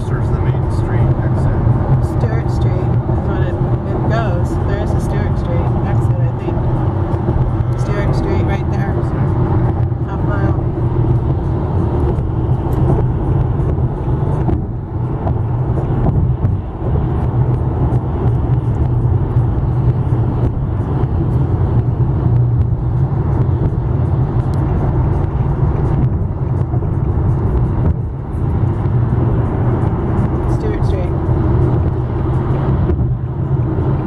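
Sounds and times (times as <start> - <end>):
car cabin road noise: 0.0 - 34.0.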